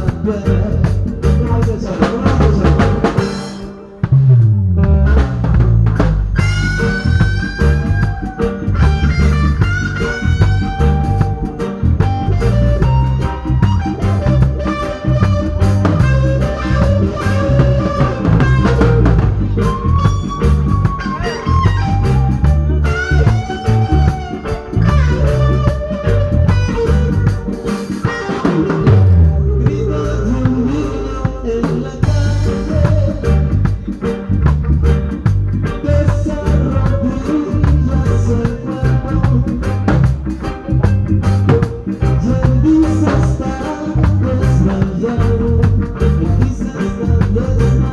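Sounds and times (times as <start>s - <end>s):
band music: 0.0s - 47.9s.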